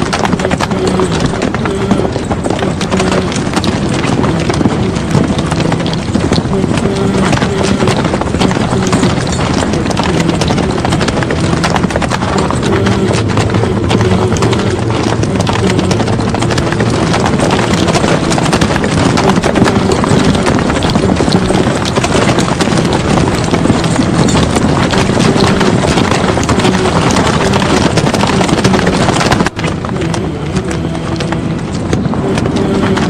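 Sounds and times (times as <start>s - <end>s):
horses galloping: 0.0s - 33.0s.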